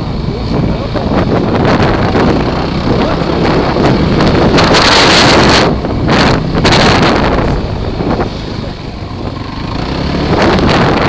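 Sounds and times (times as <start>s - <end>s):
engine rumble: 0.0s - 11.0s
wind buffeting microphone: 0.0s - 11.0s.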